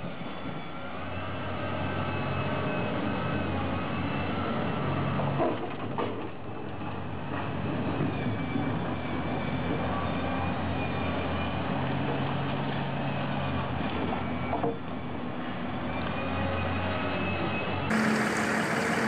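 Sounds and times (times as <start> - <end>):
diesel engine under load: 0.0 - 19.0.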